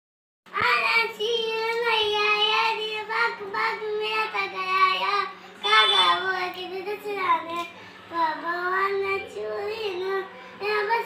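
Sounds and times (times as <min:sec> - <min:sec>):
boy singing: 0:00.5 - 0:11.0
faint low hum: 0:00.5 - 0:11.0.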